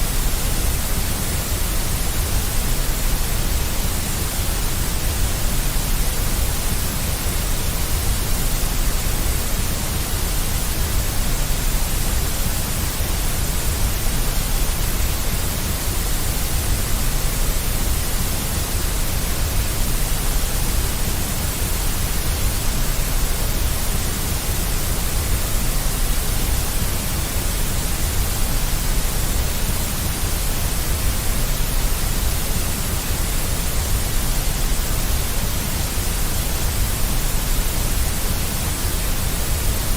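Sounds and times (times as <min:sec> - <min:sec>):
deep white noise: 0:00.0 - 0:39.9.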